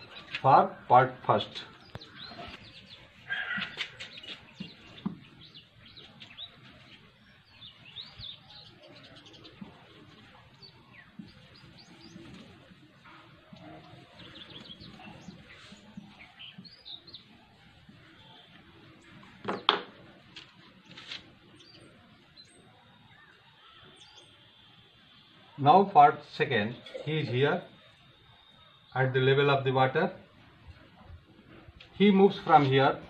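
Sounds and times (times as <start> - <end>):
small birds chirping: 0.0 - 25.8, 26.4 - 29.7.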